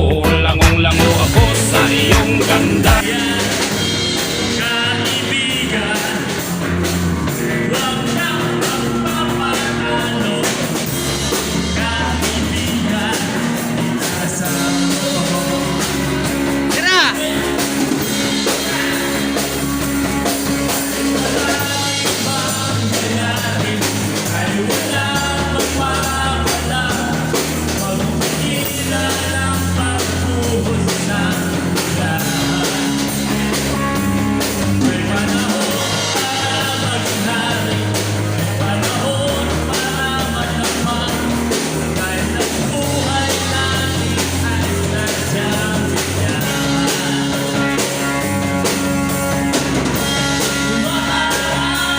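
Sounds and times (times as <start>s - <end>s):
rock music with singing: 0.0s - 51.9s.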